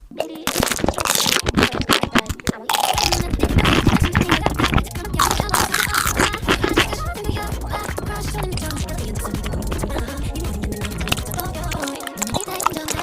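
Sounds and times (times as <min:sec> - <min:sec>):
crunchy chewing of food: 0:00.2 - 0:13.0
music: 0:02.4 - 0:13.0.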